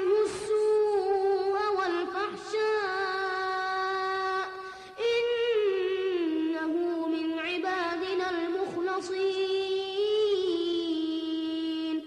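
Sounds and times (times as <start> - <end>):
boy chanting melodic recitation: 0.0 - 12.0.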